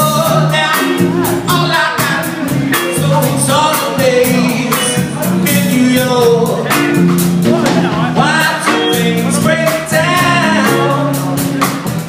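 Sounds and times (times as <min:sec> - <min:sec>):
bass line: 0:00.0 - 0:12.0
person singing: 0:00.0 - 0:12.0
soul band playing: 0:00.0 - 0:12.0
steady drum beat: 0:00.0 - 0:12.0.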